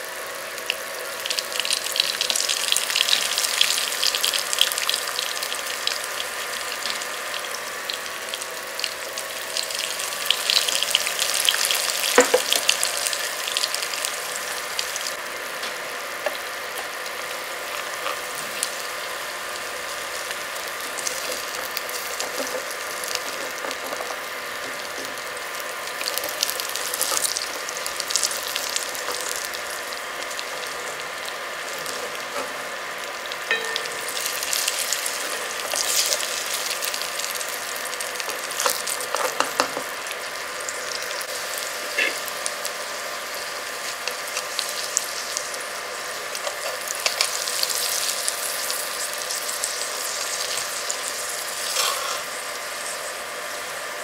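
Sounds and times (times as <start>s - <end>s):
eggs sizzling in oil: 0.0s - 54.0s
faint steady whine: 1.5s - 51.5s.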